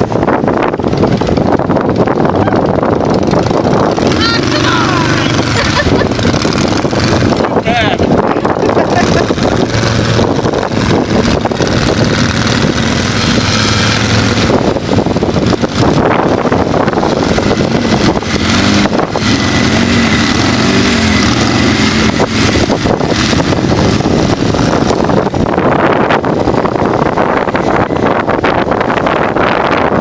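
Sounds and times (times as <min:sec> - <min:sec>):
utility vehicle engines revving: 0:00.0 - 0:30.0
wind buffeting microphone: 0:00.0 - 0:30.0.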